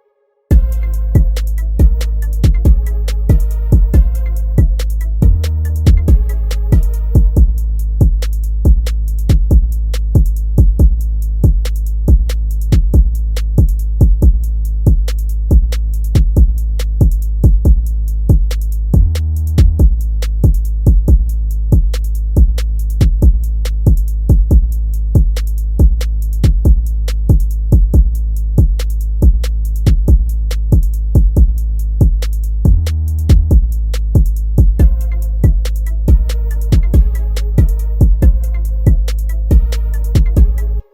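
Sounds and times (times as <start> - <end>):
drum machine beat: 0.5 - 40.9
heavy bass: 0.5 - 40.9.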